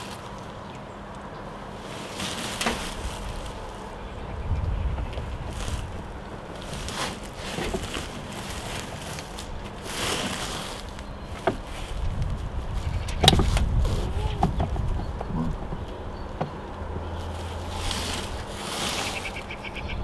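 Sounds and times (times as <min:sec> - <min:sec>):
wind rumble on microphone: 0:02.6 - 0:20.0.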